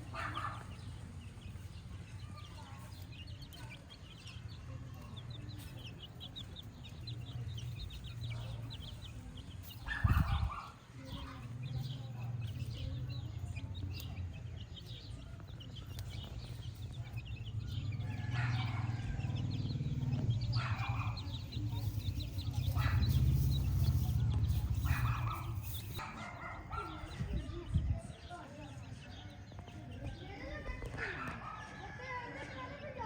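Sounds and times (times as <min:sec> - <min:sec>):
chickens clucking and chirping: 0:00.0 - 0:33.0.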